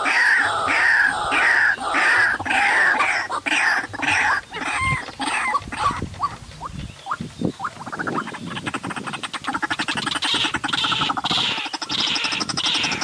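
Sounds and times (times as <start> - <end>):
bird rasping croaking pulses: 0.0 - 13.0.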